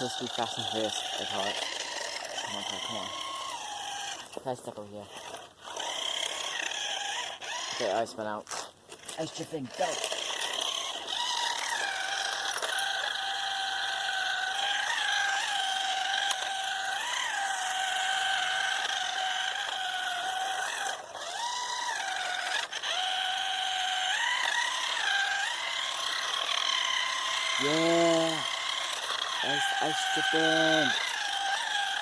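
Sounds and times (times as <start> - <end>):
toy car electric motor whining: 0.0 - 32.0.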